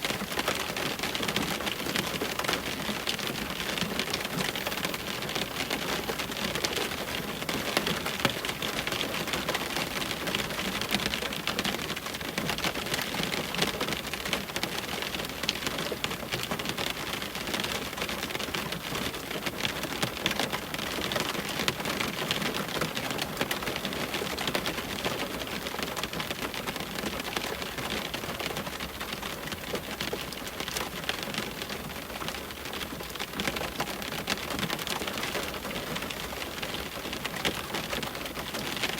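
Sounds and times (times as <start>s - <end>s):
rain hitting a window pane: 0.0s - 38.9s.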